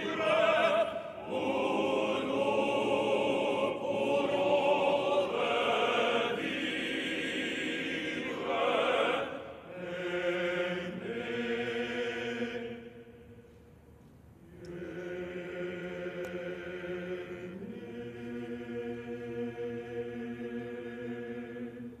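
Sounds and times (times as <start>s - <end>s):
choir singing long chords: 0.0s - 13.4s, 14.4s - 22.0s.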